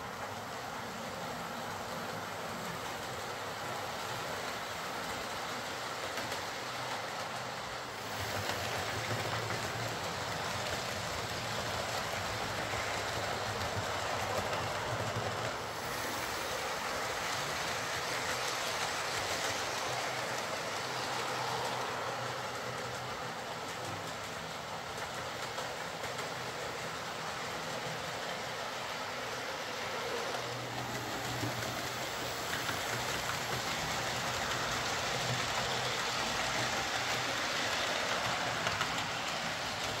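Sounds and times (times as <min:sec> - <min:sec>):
wheels on rails: 0:00.0 - 0:40.0.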